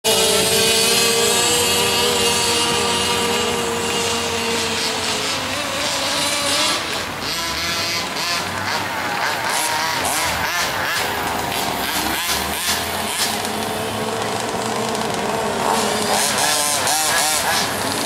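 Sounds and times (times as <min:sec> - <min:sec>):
rc car motors buzzing: 0:00.1 - 0:18.0.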